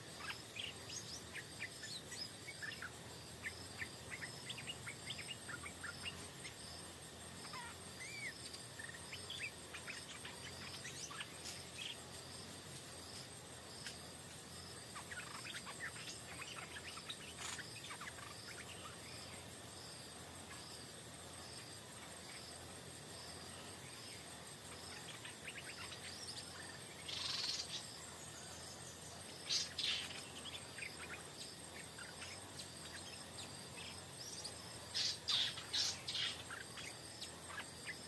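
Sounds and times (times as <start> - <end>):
birds chirping: 0.0 - 38.0
insects trilling: 0.0 - 38.0
steady high insect whine: 0.0 - 38.0.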